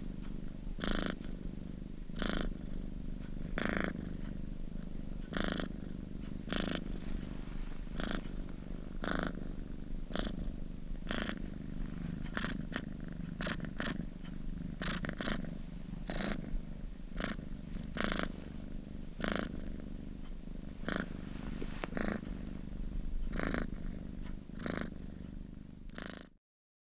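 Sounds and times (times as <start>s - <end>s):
cat purring: 0.0s - 26.4s.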